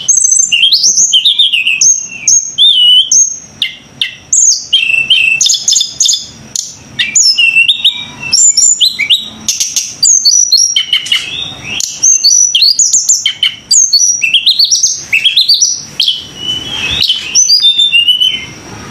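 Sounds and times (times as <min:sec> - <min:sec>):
songbird singing: 0:00.0 - 0:18.9.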